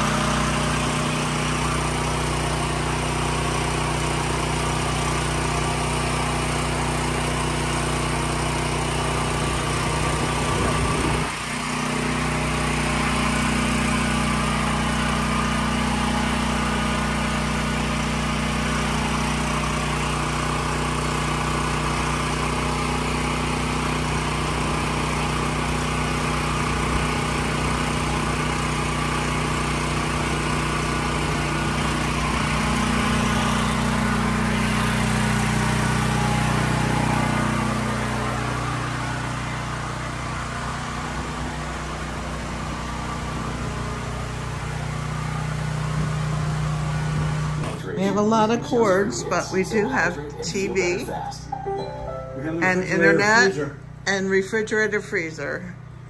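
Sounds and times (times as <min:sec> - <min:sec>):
generator engine running: 0:00.0 - 0:56.0.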